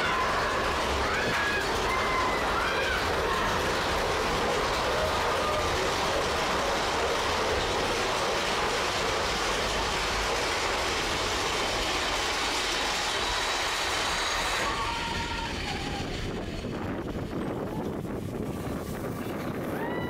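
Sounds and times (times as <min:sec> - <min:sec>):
roller coaster wheels rumbling on rail: 0:00.0 - 0:20.0.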